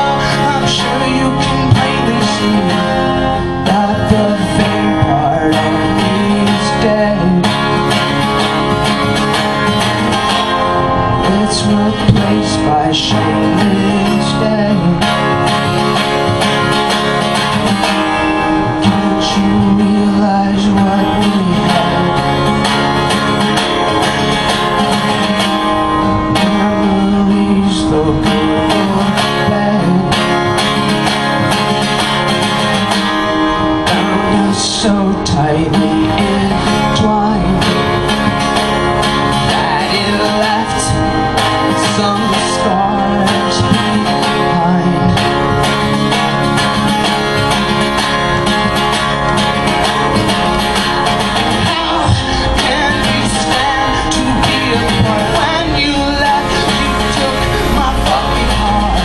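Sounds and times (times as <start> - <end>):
man singing: 0.0 - 8.8, 11.1 - 16.0, 18.4 - 31.3, 33.8 - 48.0, 49.7 - 59.0
acoustic guitar strumming: 0.0 - 59.0.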